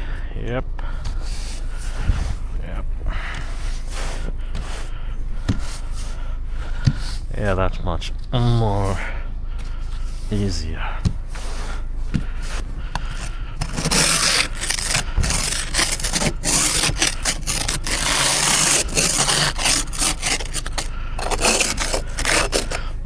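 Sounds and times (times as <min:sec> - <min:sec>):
scraper scraping ice off car: 0:01.0 - 0:02.4, 0:03.2 - 0:07.5, 0:09.9 - 0:22.9.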